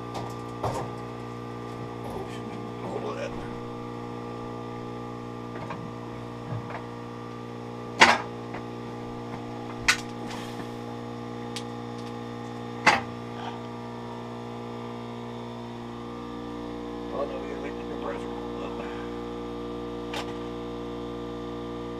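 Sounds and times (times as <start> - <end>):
electrical hum: 0.0 - 21.9.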